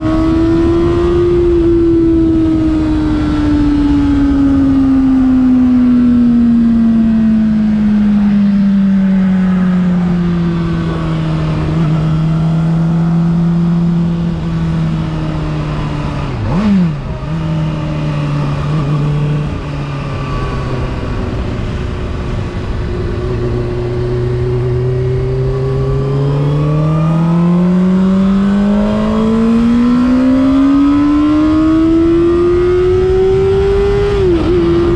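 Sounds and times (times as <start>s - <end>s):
motorcycle engine: 0.0s - 34.9s
wind and road noise: 0.0s - 34.9s.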